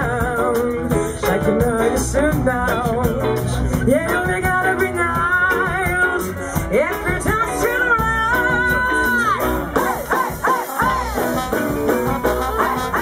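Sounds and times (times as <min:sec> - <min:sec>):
live soul band playing: 0:00.0 - 0:13.0
woman singing: 0:00.0 - 0:13.0.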